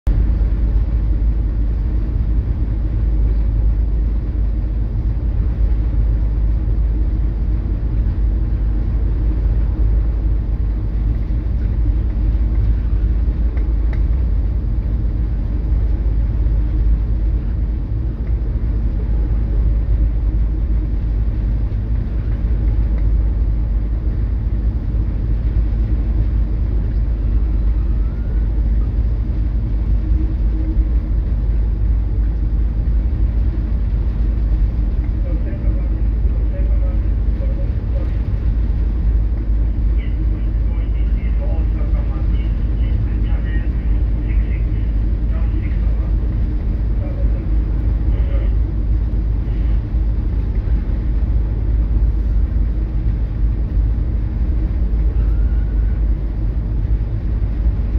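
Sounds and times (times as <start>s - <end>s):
ship engine droning: 0.1s - 57.9s
steady hum: 0.1s - 57.9s.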